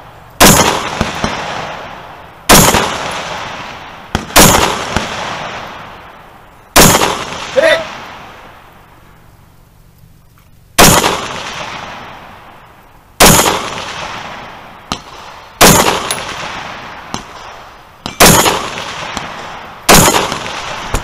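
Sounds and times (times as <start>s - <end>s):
rifle shots echoing: 0.4s - 8.6s, 10.8s - 12.6s, 13.2s - 21.0s.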